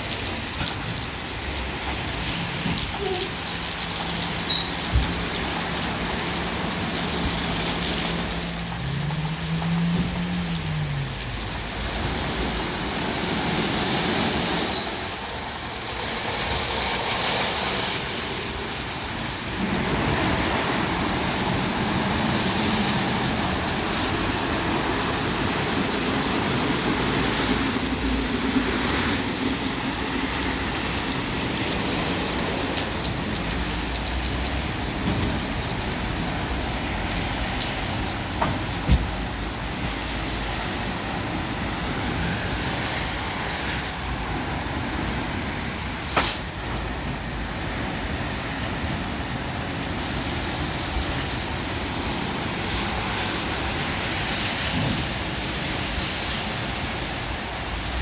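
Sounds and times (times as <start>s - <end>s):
car wash hiss and rumble: 0.0s - 58.0s.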